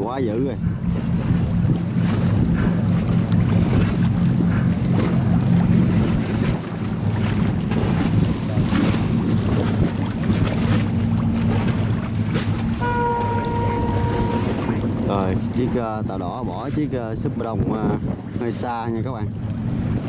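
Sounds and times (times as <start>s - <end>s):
boat engines droning: 0.0s - 20.0s
wind buffeting microphone: 0.0s - 20.0s.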